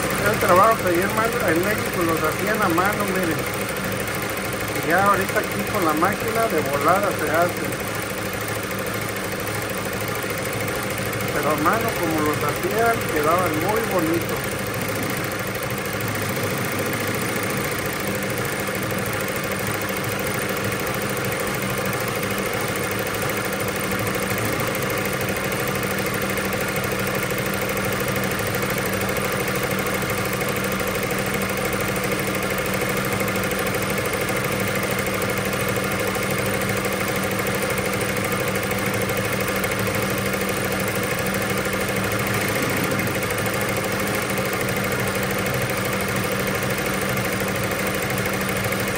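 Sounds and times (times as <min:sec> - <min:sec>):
embroidery machine running: 0:00.0 - 0:48.9.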